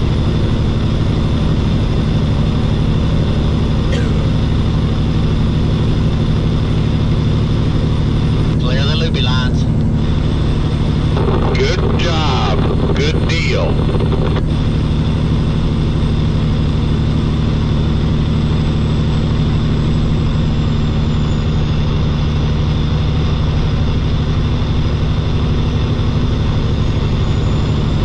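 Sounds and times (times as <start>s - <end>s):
truck engine and road noise: 0.0s - 28.0s.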